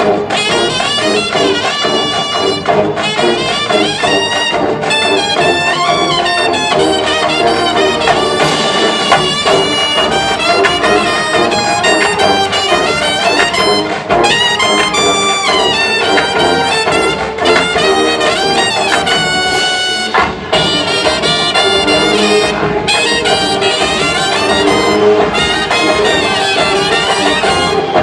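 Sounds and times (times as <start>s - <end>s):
brass band playing jazz: 0.0s - 28.0s.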